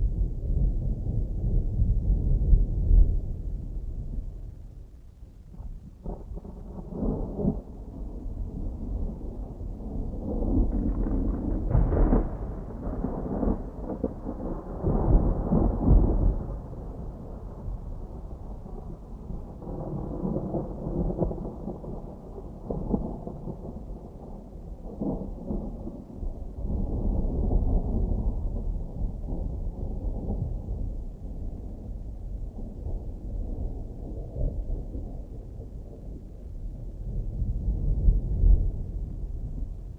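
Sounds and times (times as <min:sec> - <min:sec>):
distant thunder rumbling: 0:00.0 - 0:04.9, 0:05.5 - 0:39.9.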